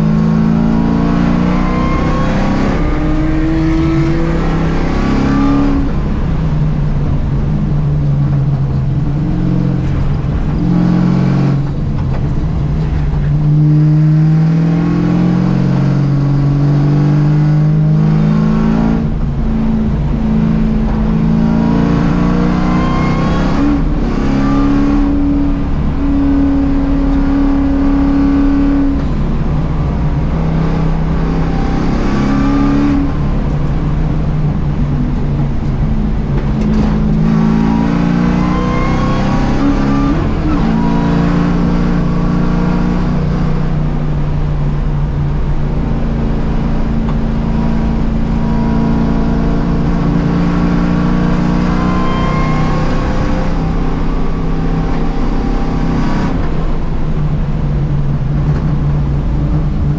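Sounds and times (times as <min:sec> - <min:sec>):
race car engine revving: 0:00.0 - 0:59.9
road and wind rumble: 0:00.0 - 0:59.9.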